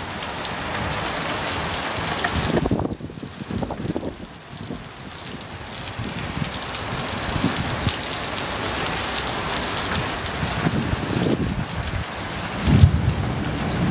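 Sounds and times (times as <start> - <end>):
heavy rain on gravel and grass: 0.0 - 13.9.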